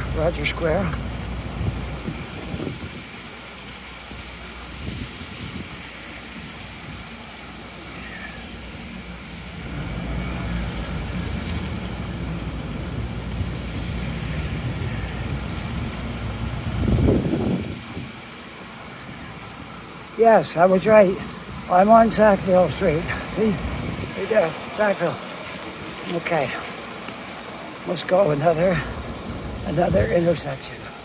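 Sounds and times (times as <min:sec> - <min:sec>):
large vehicle engine rumble: 0:00.0 - 0:31.0
tyre hiss on wet pavement: 0:00.0 - 0:31.0
vehicle engines rumbling: 0:00.0 - 0:31.0.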